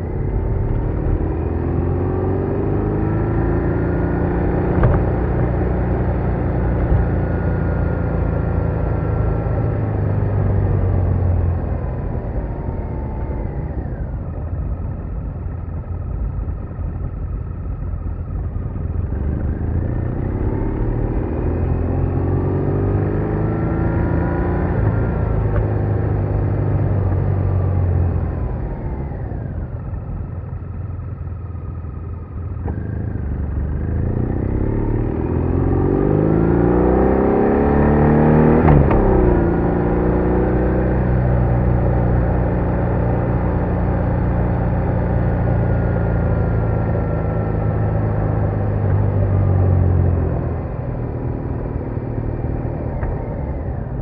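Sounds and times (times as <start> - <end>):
motorcycle engine revving: 0.0 - 14.6, 18.4 - 54.0.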